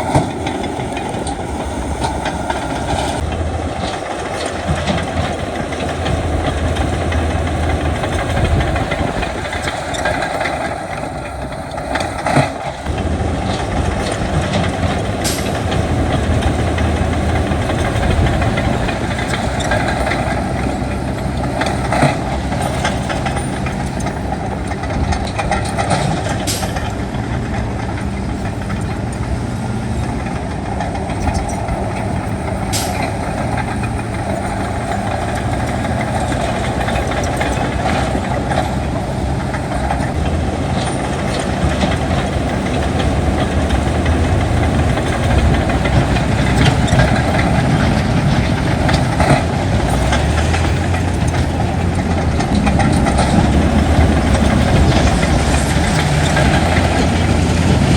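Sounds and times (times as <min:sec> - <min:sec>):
diesel machinery running: 0:00.0 - 0:57.9
sharp metallic clanks: 0:00.0 - 0:57.9.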